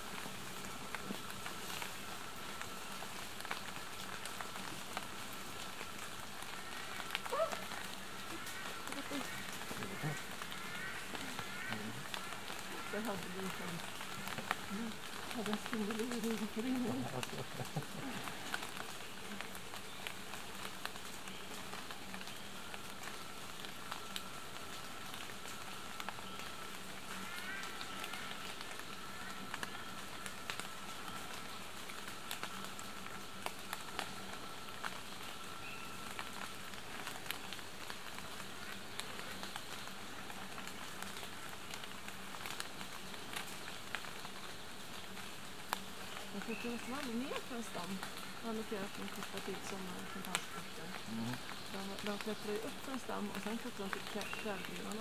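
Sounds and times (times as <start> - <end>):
even hiss with faint ticks: 0.0 - 55.0.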